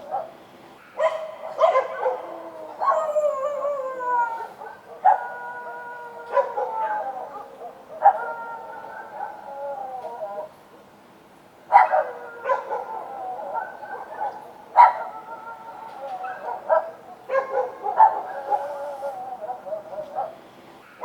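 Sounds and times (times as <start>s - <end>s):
dogs barking: 0.0s - 3.4s, 4.6s - 9.6s, 11.7s - 21.0s
dogs howling: 1.0s - 10.6s, 11.7s - 21.0s.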